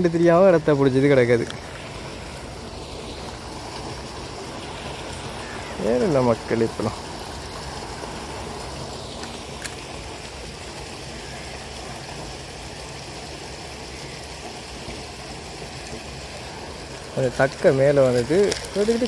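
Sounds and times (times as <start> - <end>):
water rushing past a weir: 0.0 - 19.0.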